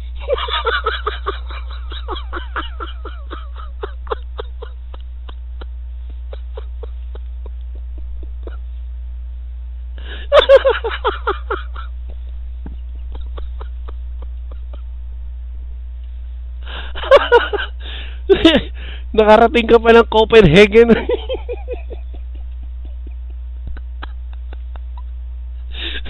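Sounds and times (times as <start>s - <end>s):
person laughing: 0.0s - 8.9s, 10.0s - 15.0s, 16.6s - 18.8s, 20.8s - 26.0s
steady electrical hum: 0.0s - 26.0s.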